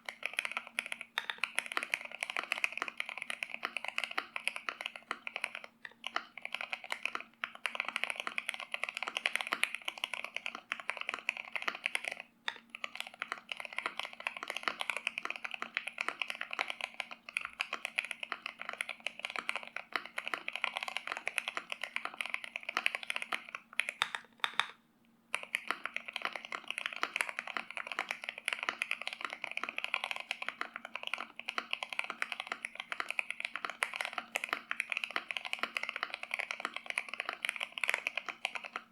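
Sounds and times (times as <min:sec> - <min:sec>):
faint steady hum: 0:00.0 - 0:38.9
mechanical keyboard typing: 0:00.0 - 0:38.9.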